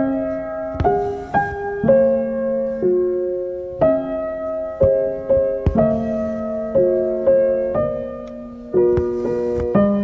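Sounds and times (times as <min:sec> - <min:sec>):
calm piano notes: 0:00.0 - 0:10.0.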